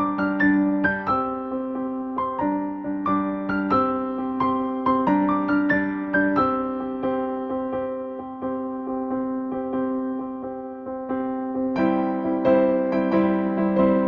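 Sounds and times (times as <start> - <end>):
keyboard piano music: 0.0 - 14.0.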